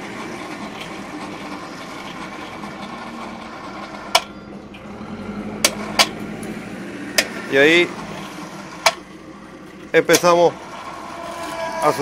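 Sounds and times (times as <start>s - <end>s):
electric chain hoist motor hum: 0.0s - 12.0s.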